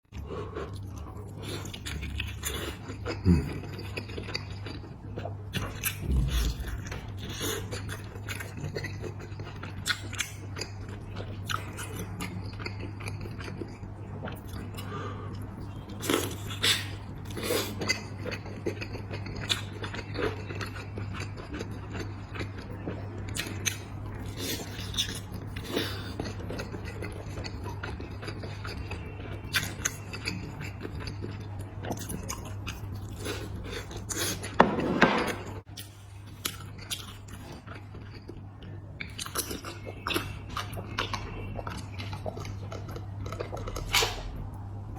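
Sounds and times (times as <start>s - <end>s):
steady low hum: 0.0s - 44.9s
person chewing crunchy food: 0.1s - 44.9s.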